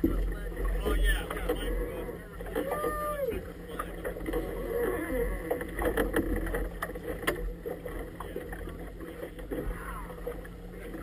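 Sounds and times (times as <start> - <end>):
low steady hum: 0.0 - 11.0
water splashing against boat: 0.0 - 11.0.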